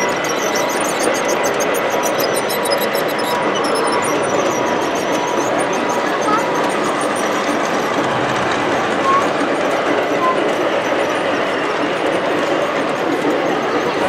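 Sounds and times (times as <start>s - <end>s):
crowd babble: 0.0s - 14.0s
model train rolling on track: 0.0s - 14.0s.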